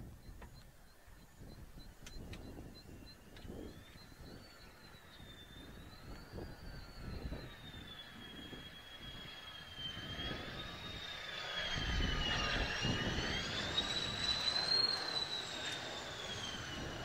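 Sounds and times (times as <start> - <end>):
jet engine whine: 0.0 - 17.0
jet rumble: 0.0 - 17.0.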